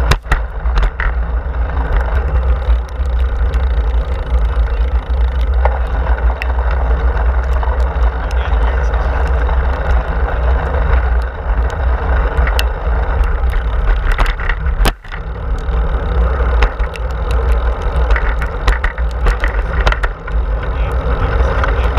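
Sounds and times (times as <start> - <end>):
bicycle tyre noise: 0.0 - 21.9
small clicks and rattles: 0.0 - 21.9.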